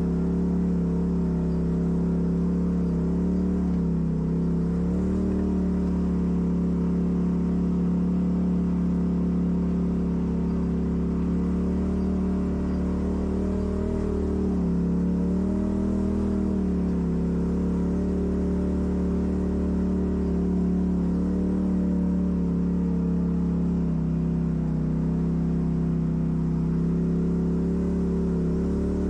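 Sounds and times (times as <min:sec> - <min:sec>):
vehicle engine running low revs: 0:00.0 - 0:29.0.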